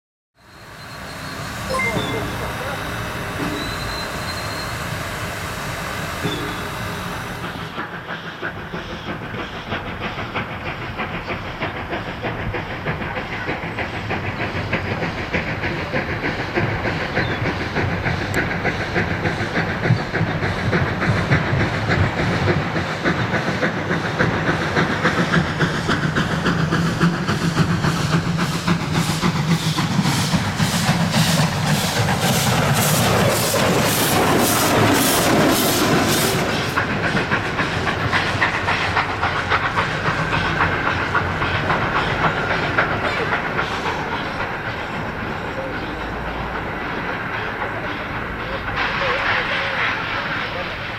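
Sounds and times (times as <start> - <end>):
hissing steam: 0.4 - 50.9
passing train carriages: 0.4 - 50.9
steam locomotive chuffing: 0.4 - 50.9.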